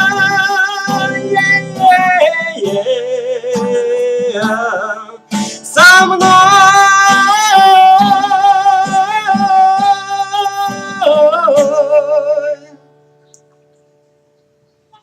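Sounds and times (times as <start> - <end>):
man singing with vibrato: 0.0 - 12.9
strummed acoustic guitar: 0.0 - 15.0.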